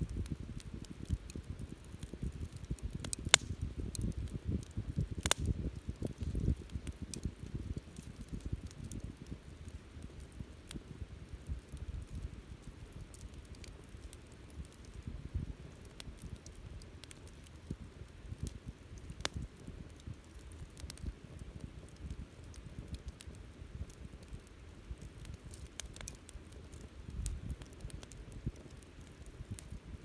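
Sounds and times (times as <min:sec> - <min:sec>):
campfire crackling and popping: 0:00.0 - 0:30.0
low rumble of flames: 0:00.0 - 0:30.0.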